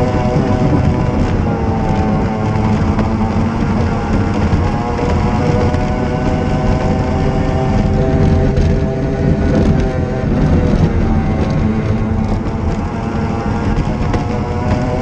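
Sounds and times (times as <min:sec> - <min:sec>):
outboard engine running hard: 0:00.0 - 0:15.0
rush of wind and water: 0:00.0 - 0:15.0.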